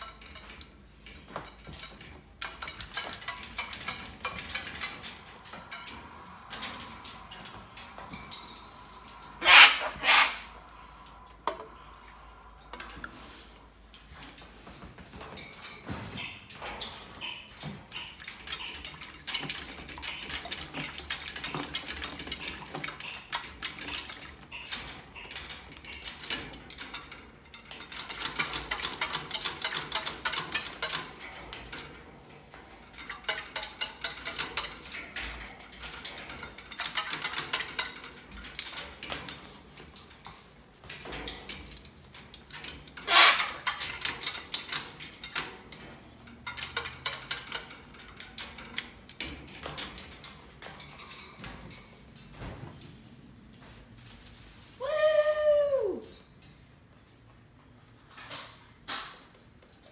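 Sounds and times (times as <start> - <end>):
beak and feet clattering on metal: 0.0 - 53.8.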